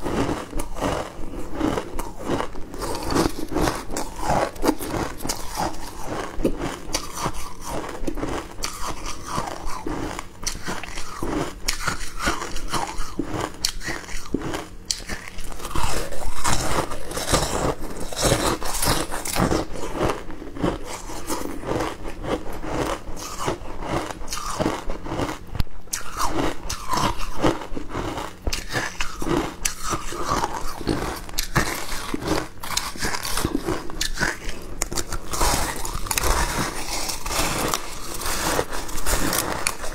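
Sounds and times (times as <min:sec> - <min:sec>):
person crunching shaved ice: 0:00.0 - 0:39.9.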